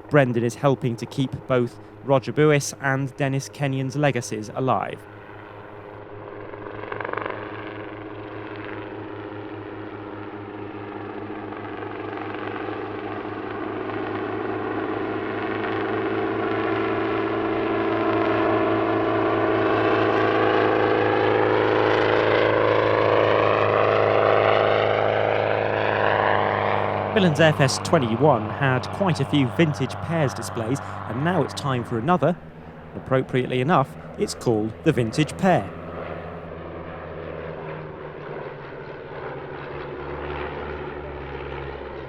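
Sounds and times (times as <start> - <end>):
helicopter engine and rotor: 0.0 - 42.0.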